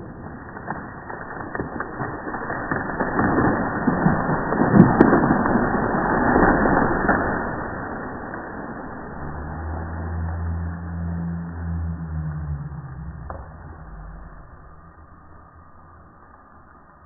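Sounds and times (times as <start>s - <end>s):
sharp wood cracks: 0.0s - 16.8s
wood creaking and splintering: 0.0s - 16.8s.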